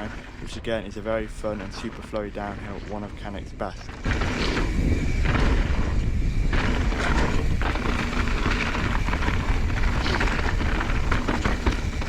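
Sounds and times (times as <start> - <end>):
bike rattling and knocking: 0.0 - 3.1, 3.7 - 12.0
bike tyres rumbling over dirt: 0.0 - 12.0
wind buffeting microphone: 0.0 - 12.0.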